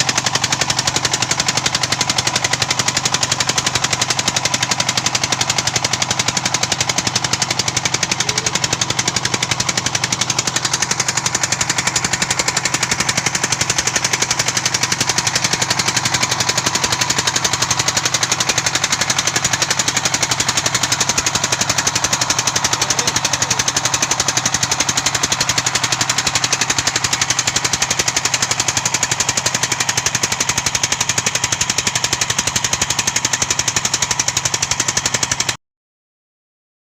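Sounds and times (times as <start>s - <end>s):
unmuffled engine running: 0.0s - 35.6s.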